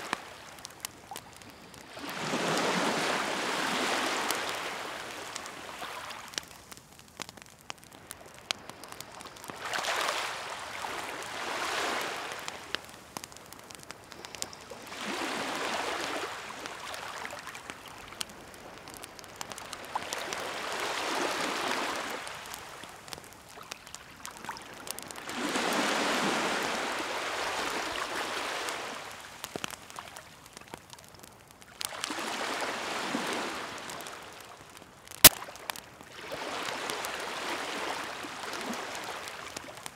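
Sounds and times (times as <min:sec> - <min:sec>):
campfire crackling and popping: 0:00.0 - 0:39.9
waves washing onto shore: 0:00.0 - 0:39.9.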